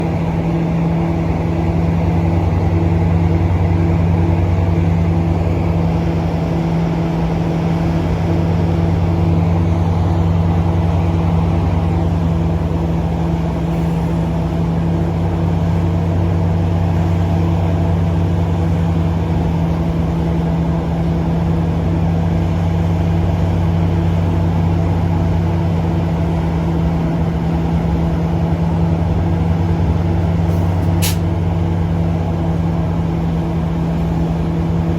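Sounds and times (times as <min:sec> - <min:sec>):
locomotive diesel engine idling: 0:00.0 - 0:34.9.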